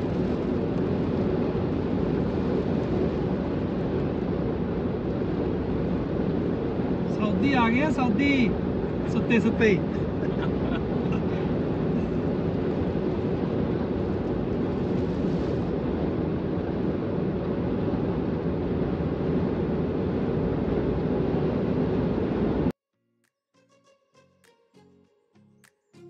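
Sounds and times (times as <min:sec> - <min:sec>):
car cabin road noise: 0:00.0 - 0:22.7.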